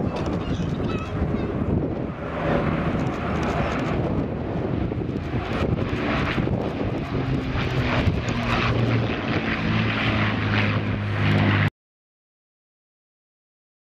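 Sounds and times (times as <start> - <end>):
propeller aircraft engines droning: 0.0 - 11.7.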